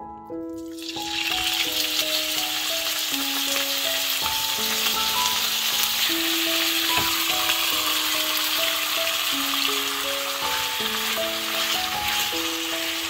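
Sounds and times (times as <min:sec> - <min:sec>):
gentle slow melody: 0:00.0 - 0:13.0
chicken sizzling in hot oil: 0:00.6 - 0:13.0.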